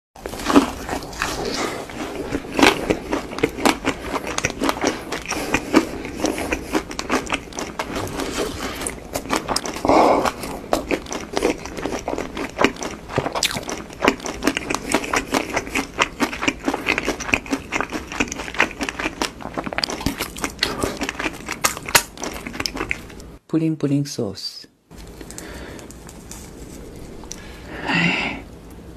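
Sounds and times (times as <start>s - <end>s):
chewing crunchy fried food: 0.2s - 23.4s, 24.9s - 27.8s.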